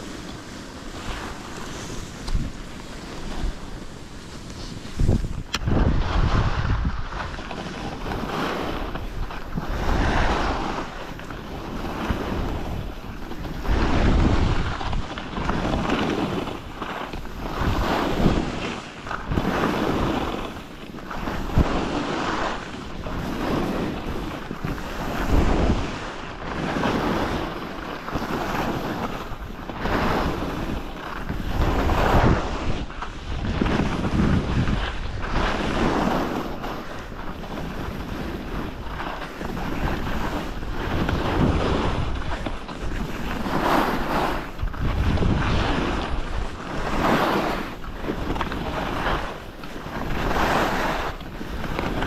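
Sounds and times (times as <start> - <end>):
skis scraping over packed snow: 0.0 - 52.0
wind over the microphone: 0.0 - 52.0.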